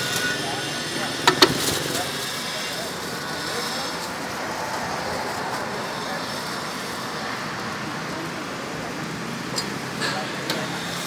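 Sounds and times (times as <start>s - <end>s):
roadside traffic hum: 0.0s - 11.0s.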